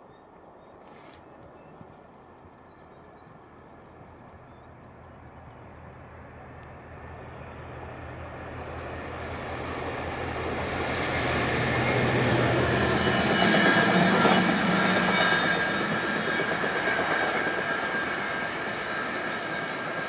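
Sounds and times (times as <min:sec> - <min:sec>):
diesel train engine drone: 0:03.1 - 0:20.0
train running rush: 0:03.7 - 0:20.0.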